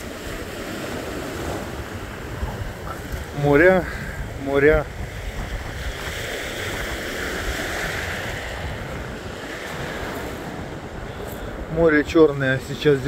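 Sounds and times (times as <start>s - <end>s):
waves breaking on pebble beach: 0.0s - 13.0s
wind on microphone: 0.0s - 13.0s.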